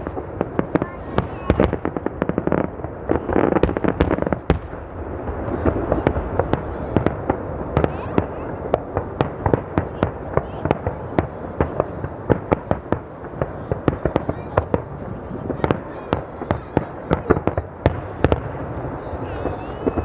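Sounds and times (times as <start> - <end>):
fireworks bangs and crackling pops: 0.0 - 20.0.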